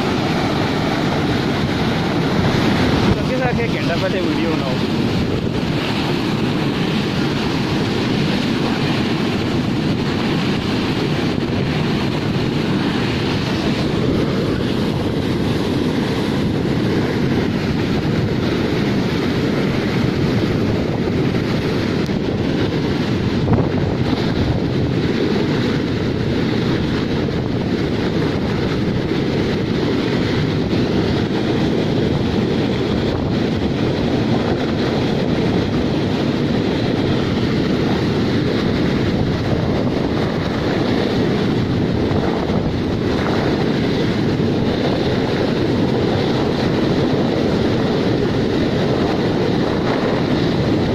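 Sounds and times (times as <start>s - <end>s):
water pouring over dam spillway: 0.0s - 50.9s.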